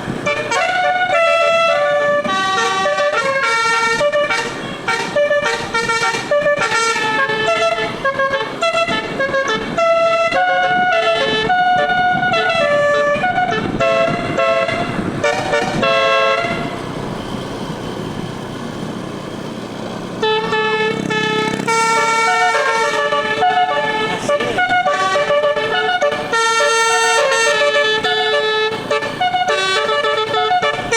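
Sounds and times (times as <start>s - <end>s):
musical air horn playing a tune: 0.2s - 16.8s, 20.2s - 30.9s.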